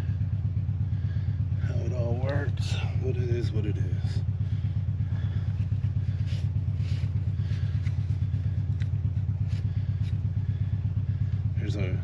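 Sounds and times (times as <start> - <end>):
low pulsing machine hum: 0.0 - 12.0.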